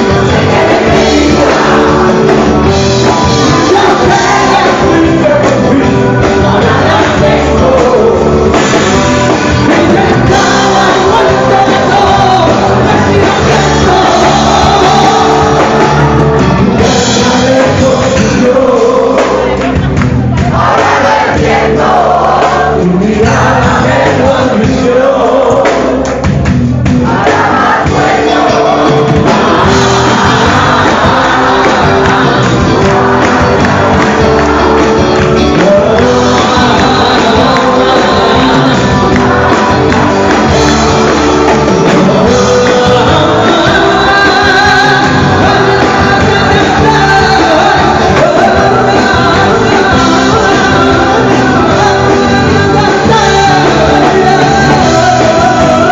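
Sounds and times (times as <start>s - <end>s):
crowd shouting and singing along: 0.0s - 55.9s
live rock band with singer: 0.0s - 55.9s.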